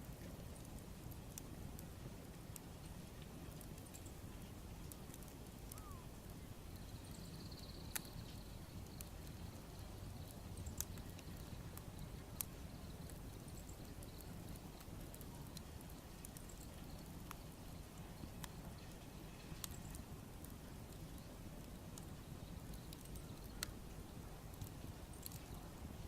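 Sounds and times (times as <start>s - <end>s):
bonfire crackling: 0.0s - 26.0s.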